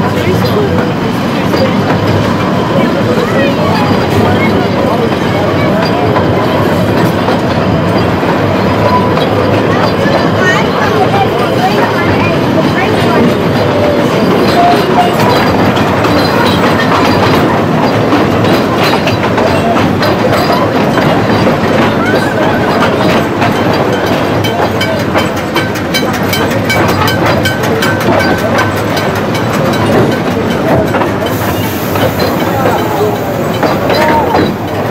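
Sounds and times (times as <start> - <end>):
train carriages rumbling on track: 0.0 - 34.9
wheels clicking over rail joints: 0.0 - 34.9.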